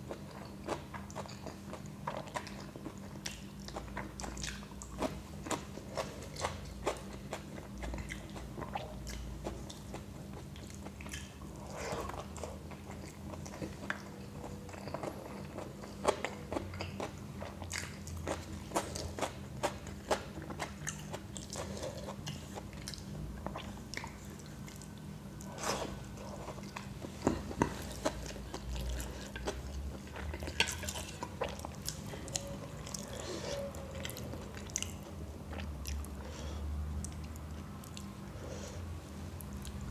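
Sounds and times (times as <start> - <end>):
person chewing and crunching: 0.0 - 38.3.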